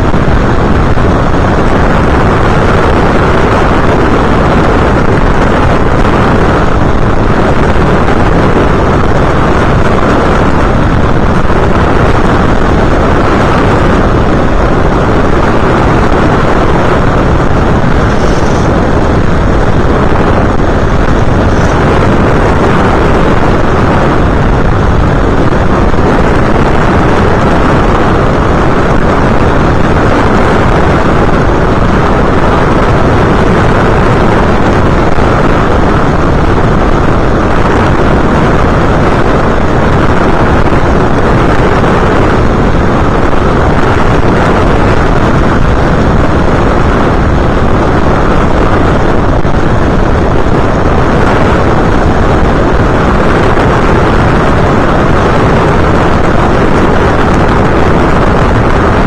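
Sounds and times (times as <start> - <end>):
airflow rush: 0.0 - 59.0
motor propeller noise: 0.0 - 59.0.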